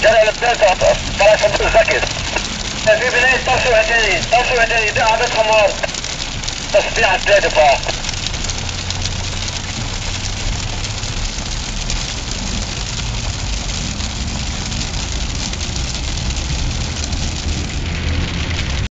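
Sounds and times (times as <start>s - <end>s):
car engine humming: 0.0s - 18.9s
road noise hiss: 0.0s - 18.9s.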